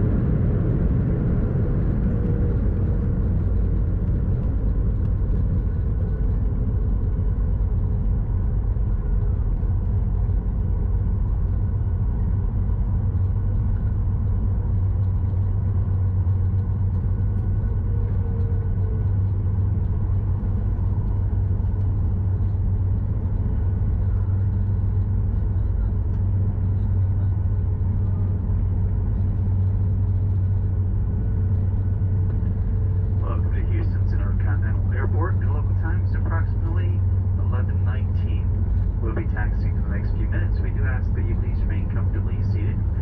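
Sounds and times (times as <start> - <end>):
airplane cabin low rumble: 0.0 - 43.0
faint steady tones: 0.0 - 43.0.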